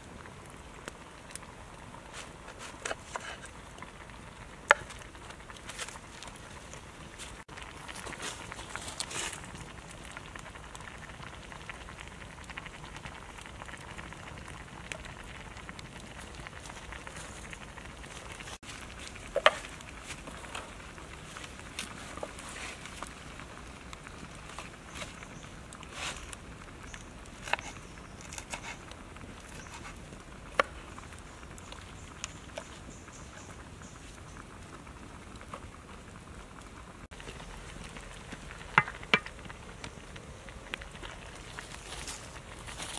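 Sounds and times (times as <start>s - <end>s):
broth boiling in a wok: 0.0s - 42.9s
wood fire crackling: 0.0s - 42.9s.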